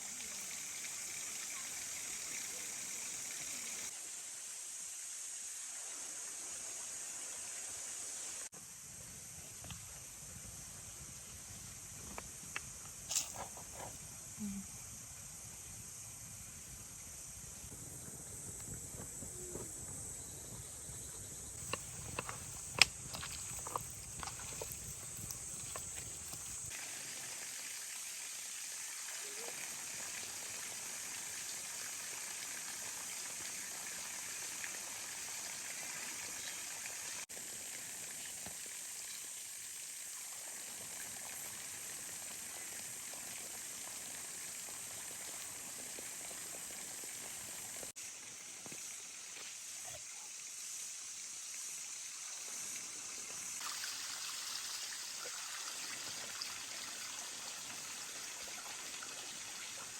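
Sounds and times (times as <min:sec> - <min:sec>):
running water hiss: 0:00.0 - 0:59.9.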